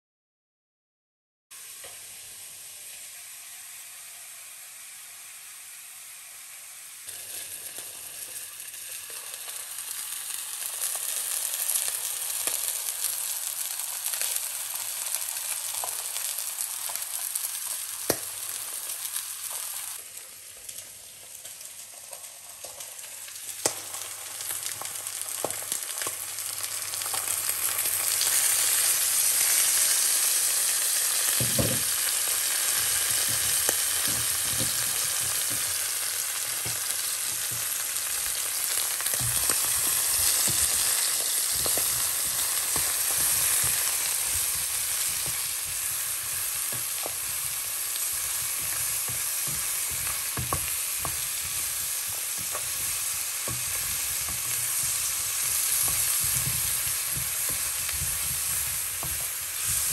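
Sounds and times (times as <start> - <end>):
food sizzling in frying pan: 1.6 - 59.9.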